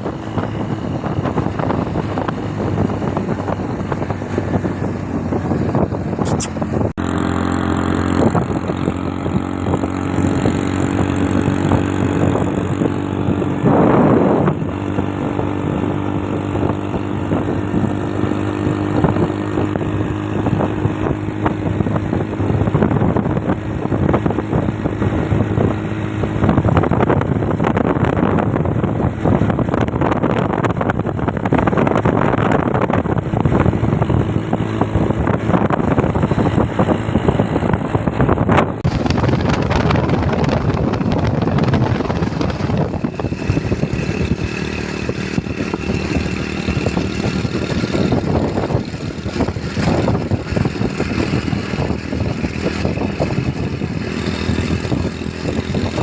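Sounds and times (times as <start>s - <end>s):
motorcycle engine running: 0.0s - 38.1s, 38.8s - 56.0s
wind on microphone: 0.0s - 56.0s.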